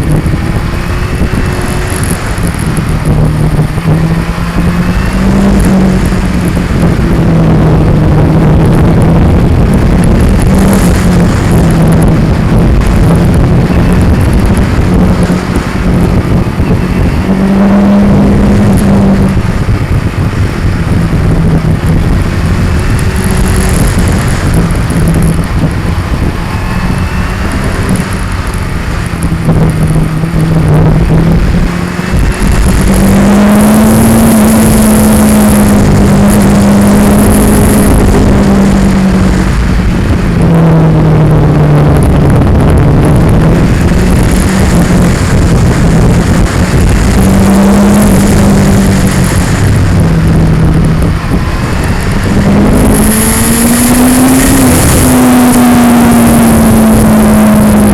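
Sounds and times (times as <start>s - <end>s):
camera shaking rumble: 0.0s - 57.9s
motorcycle engine revving: 0.0s - 57.9s.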